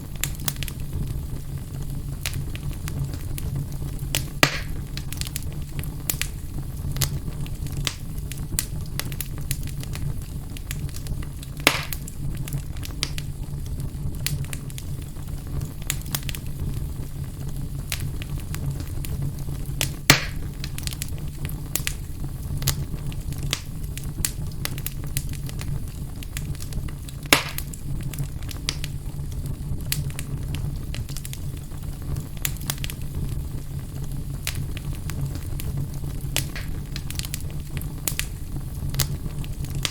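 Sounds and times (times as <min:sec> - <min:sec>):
fire crackling in fireplace: 0:00.0 - 0:39.9
loud fire pops: 0:00.0 - 0:39.9.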